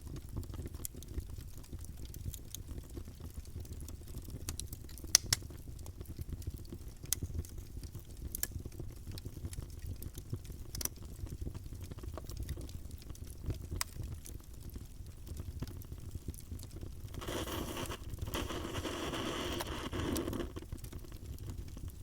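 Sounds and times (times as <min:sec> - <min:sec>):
low rumble of flames: 0:00.0 - 0:22.0
wood crackling and popping: 0:00.0 - 0:22.0.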